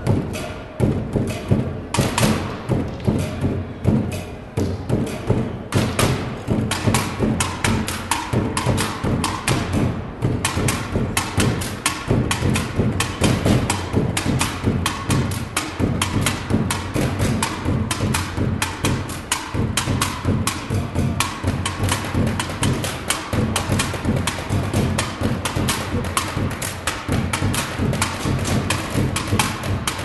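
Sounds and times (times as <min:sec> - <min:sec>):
drumming on plastic bins and buckets: 0:00.0 - 0:30.0.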